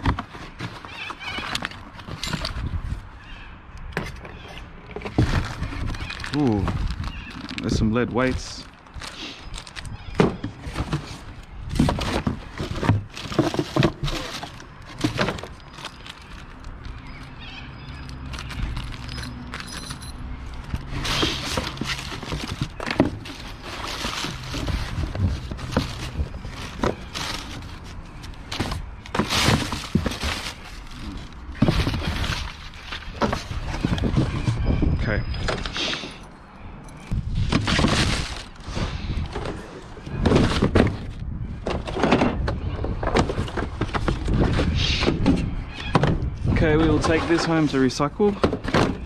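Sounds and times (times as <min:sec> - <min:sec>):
scrap items knocking and clattering: 0:00.0 - 0:02.9, 0:03.9 - 0:08.4, 0:09.7 - 0:16.4, 0:20.6 - 0:36.2, 0:37.4 - 0:49.0.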